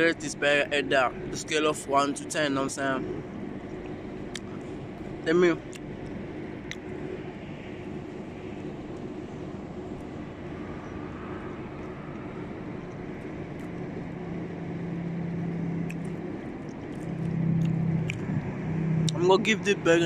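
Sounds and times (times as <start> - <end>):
low drone: 0.0 - 20.0
vehicle engine hum: 0.0 - 20.0.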